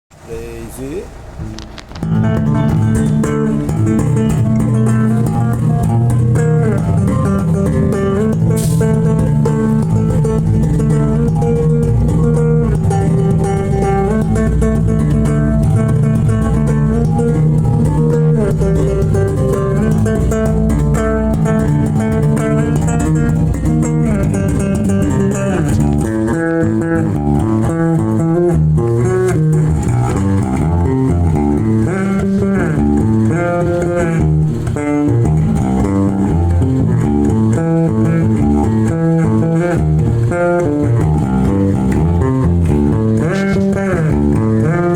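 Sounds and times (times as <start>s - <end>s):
electric bass groove: 0.1s - 44.9s.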